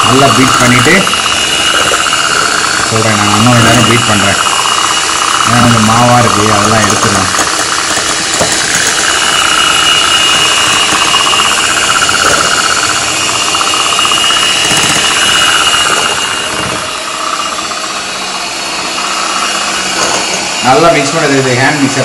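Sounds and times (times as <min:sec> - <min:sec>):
electric hand mixer whirring: 0:00.0 - 0:22.0.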